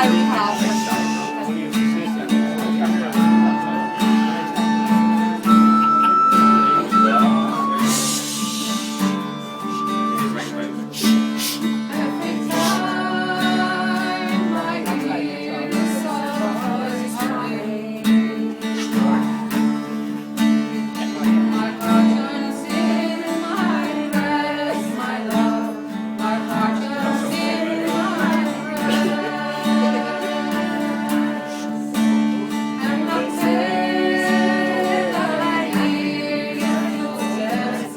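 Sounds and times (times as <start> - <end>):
person singing: 0.0 - 19.8, 20.9 - 37.9
acoustic guitar strumming: 0.0 - 37.9.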